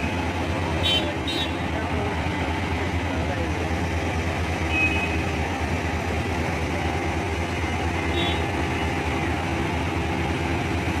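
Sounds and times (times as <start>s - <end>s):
street traffic: 0.0s - 11.0s
vehicle engines idling: 0.0s - 11.0s.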